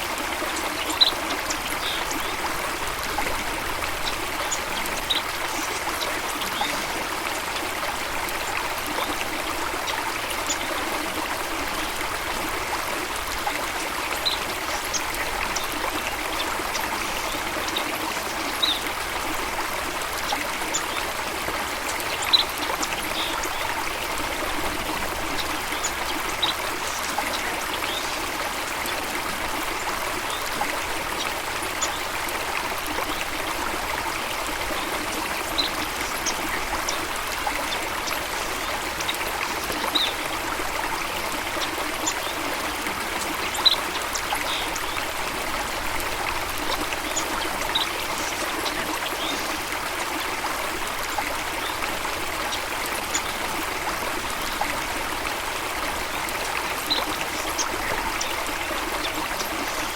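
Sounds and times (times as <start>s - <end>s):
running water trickling: 0.0s - 59.9s.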